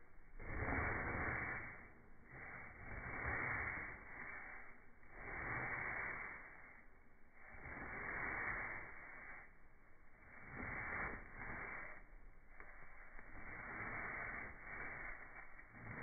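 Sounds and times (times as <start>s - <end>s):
paintbrush swishing on rough paint: 0.3s - 16.0s.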